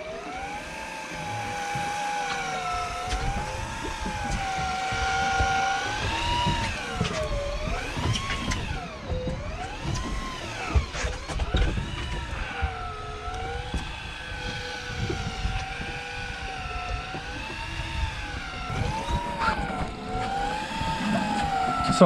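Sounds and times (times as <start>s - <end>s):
motor whining: 0.0s - 22.0s
low thuds and knocks: 1.5s - 21.9s.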